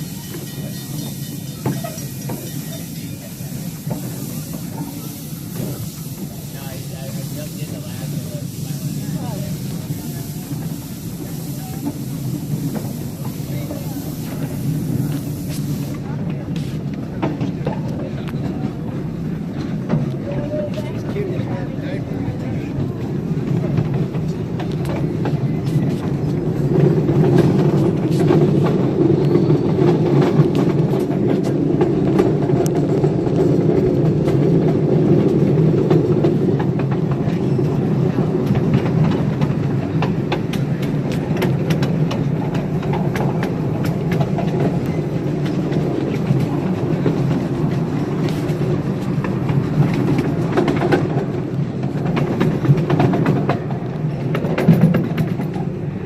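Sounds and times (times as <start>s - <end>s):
train rumbling on track: 0.0s - 56.0s
wheels clicking on rails: 0.0s - 56.0s.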